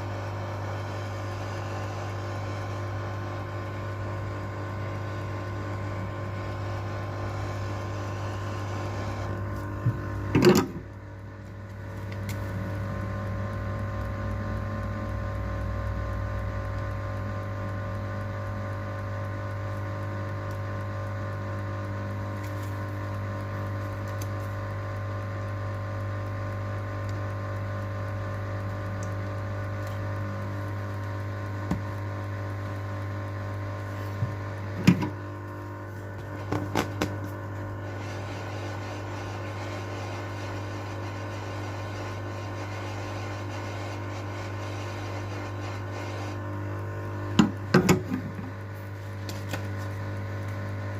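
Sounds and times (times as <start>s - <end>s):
electrical machine hum: 0.0s - 50.9s.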